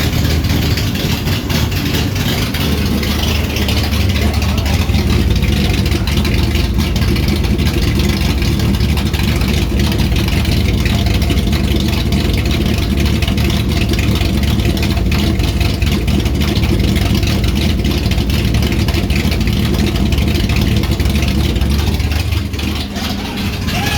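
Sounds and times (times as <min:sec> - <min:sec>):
car engine running: 0:00.0 - 0:23.9.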